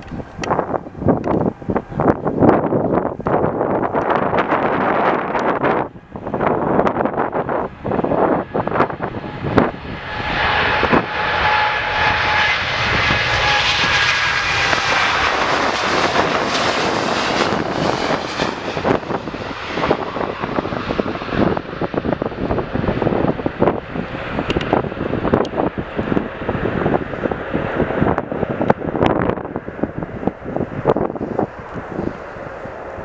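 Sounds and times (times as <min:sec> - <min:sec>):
jet engines roaring past: 0:00.0 - 0:33.0
wind buffeting microphone: 0:00.0 - 0:33.0.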